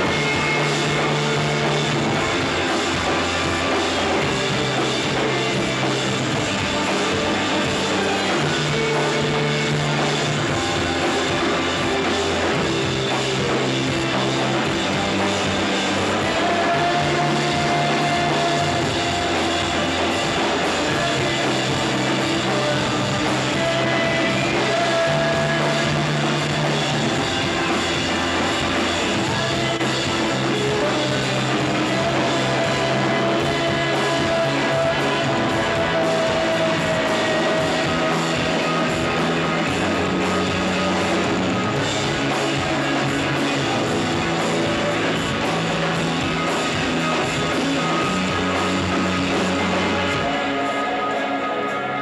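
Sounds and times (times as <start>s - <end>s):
bass notes: 0.0s - 52.0s
distorted electric guitars: 0.0s - 52.0s
drums: 0.0s - 52.0s.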